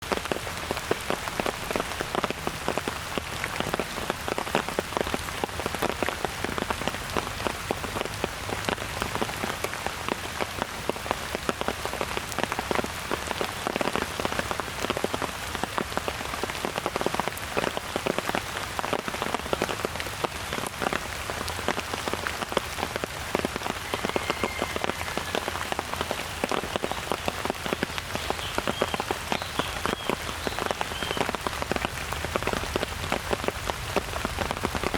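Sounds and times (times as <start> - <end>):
raindrops ticking on surfaces: 0.0 - 34.9
steady rain: 0.0 - 34.9.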